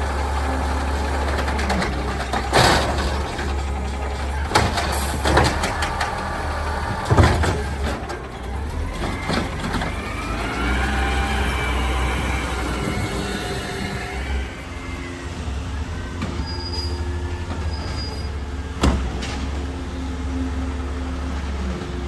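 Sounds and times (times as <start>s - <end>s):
diesel engine low rumble: 0.0s - 22.0s.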